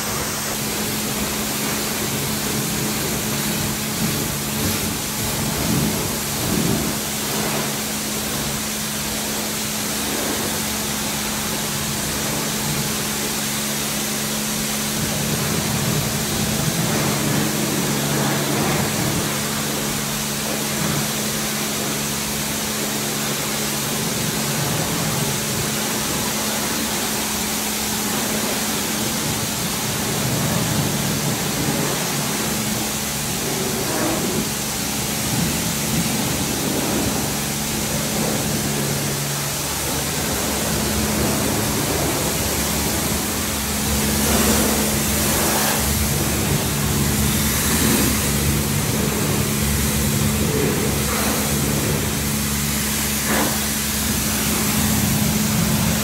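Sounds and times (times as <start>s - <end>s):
hiss of pressure washer spray: 0.0s - 56.0s
pump hum: 0.0s - 56.0s.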